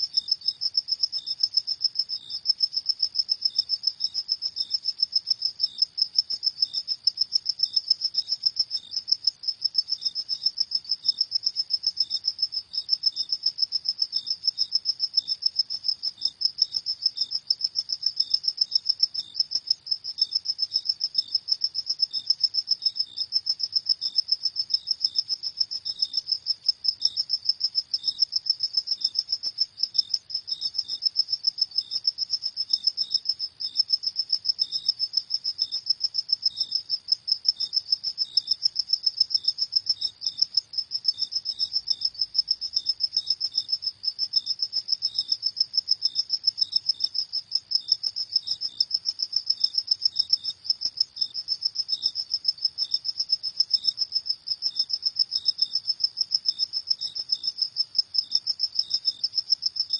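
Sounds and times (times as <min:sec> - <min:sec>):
cricket trilling: 0:00.0 - 0:59.9
lower cricket chirps: 0:00.0 - 0:59.9.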